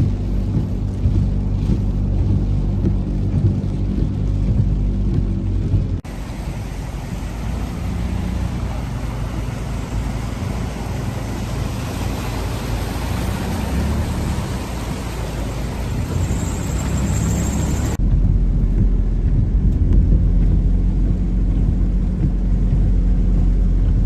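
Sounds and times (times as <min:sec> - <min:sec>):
deep low rumble: 0:00.0 - 0:24.0
heavy rain: 0:00.0 - 0:24.0
vehicles moving through floodwater: 0:00.0 - 0:24.0.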